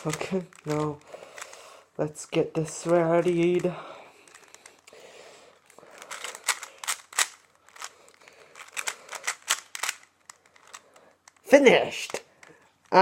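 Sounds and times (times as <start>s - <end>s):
puzzle cube plastic clicks: 0.0s - 13.0s.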